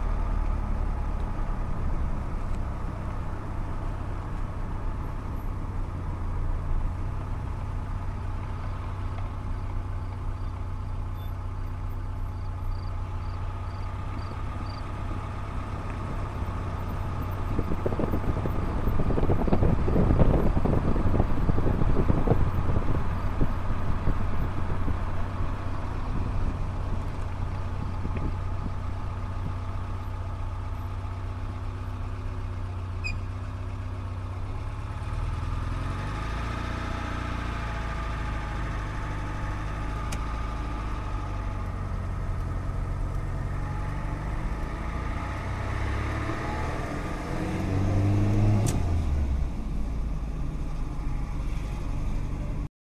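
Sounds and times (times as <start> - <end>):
vehicle engine running: 0.0 - 52.7.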